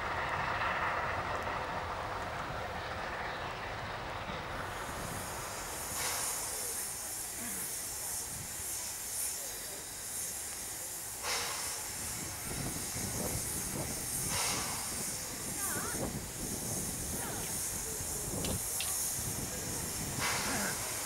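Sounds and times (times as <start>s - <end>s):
steam locomotives venting steam: 0.0s - 21.0s.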